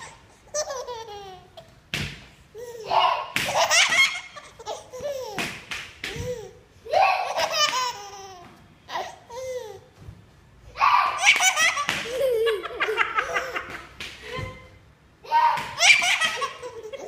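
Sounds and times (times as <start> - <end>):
baby laughing: 0.0 - 1.8, 2.6 - 9.9, 10.8 - 14.7, 15.3 - 17.0.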